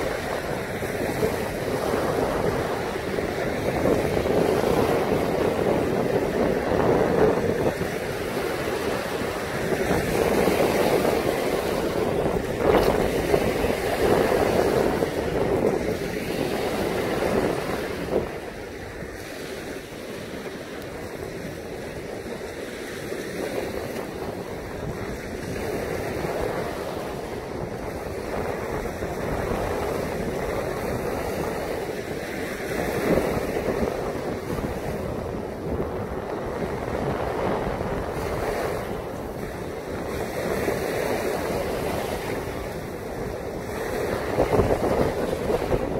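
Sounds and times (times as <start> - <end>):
waves breaking on a pebbly shore: 0.0 - 45.9
wind rumbling on microphone: 0.0 - 45.9.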